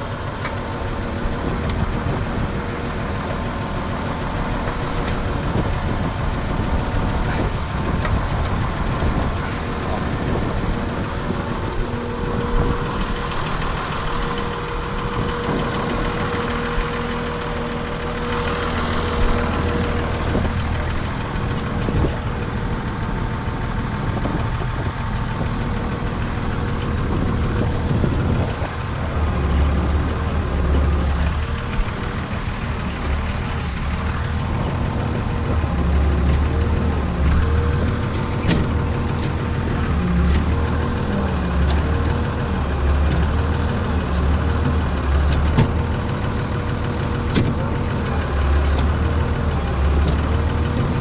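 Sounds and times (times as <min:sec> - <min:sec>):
steady whine: 0:00.0 - 0:42.8
tractor diesel engine running: 0:00.0 - 0:51.0.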